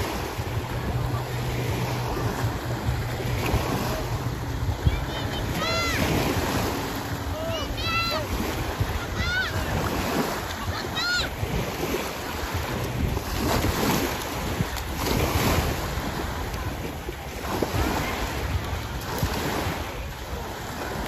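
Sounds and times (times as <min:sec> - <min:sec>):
small waves breaking on shore: 0:00.0 - 0:21.0
wind buffeting microphone: 0:00.0 - 0:21.0.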